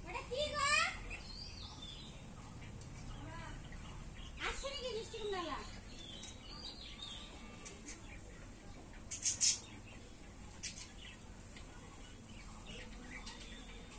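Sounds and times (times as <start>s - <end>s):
birds chirping: 0.0s - 13.9s
low outdoor hiss: 0.0s - 13.9s.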